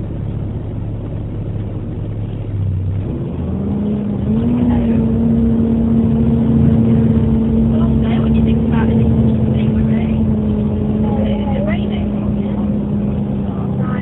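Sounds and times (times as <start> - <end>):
bus diesel engine revving: 2.0 - 14.0.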